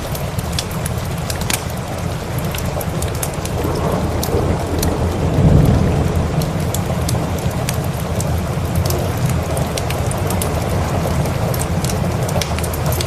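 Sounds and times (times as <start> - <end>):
low rumble of thunder: 0.0 - 13.0
sharp crackles: 0.0 - 13.0
steady rain: 0.0 - 13.0.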